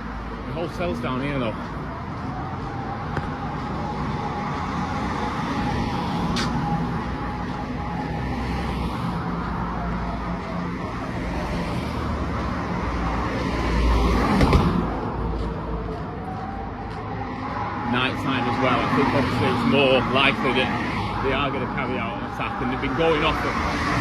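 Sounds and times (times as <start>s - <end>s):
air raid siren wailing: 0.0s - 24.0s
street traffic rumble: 0.0s - 24.0s.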